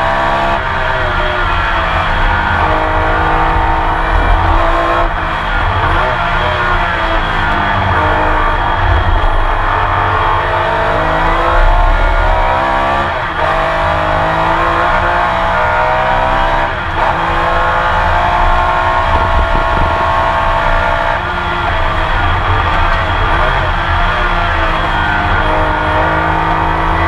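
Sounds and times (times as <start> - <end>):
racing engine accelerating: 0.0 - 27.0.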